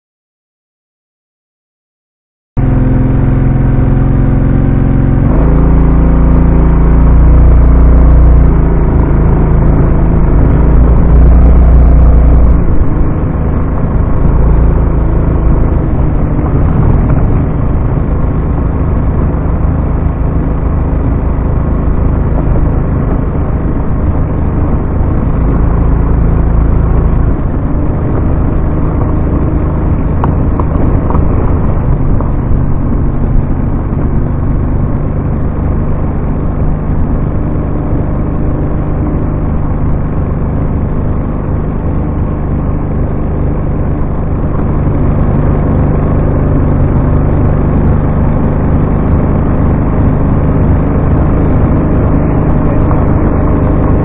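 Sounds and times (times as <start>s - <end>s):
motorcycle engine running: 2.6s - 54.0s.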